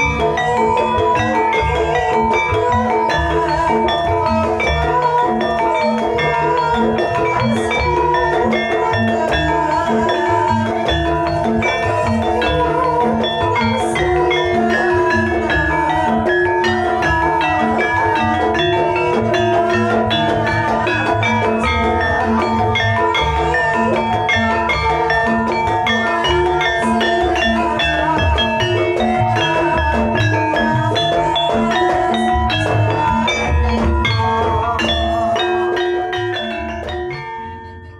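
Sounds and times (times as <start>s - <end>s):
gamelan music: 0.0s - 37.9s
struck metal mallet instruments: 0.0s - 37.9s.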